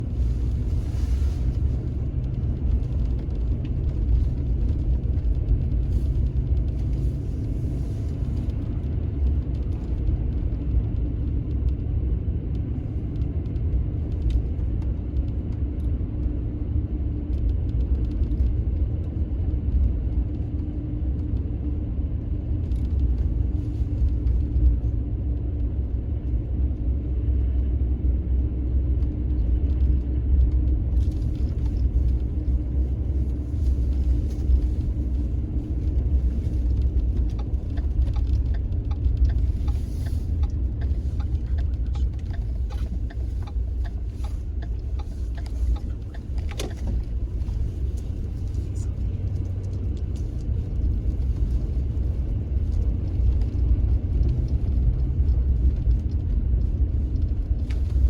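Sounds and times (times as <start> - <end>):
low rumble: 0.0 - 58.0.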